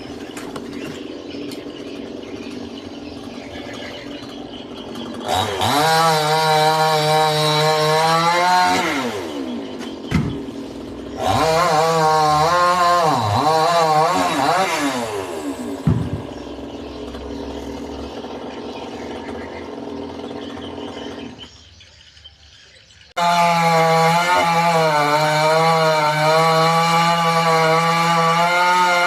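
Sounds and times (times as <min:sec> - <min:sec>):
chainsaw revving and cutting wood: 0:00.0 - 0:21.9, 0:23.0 - 0:29.0.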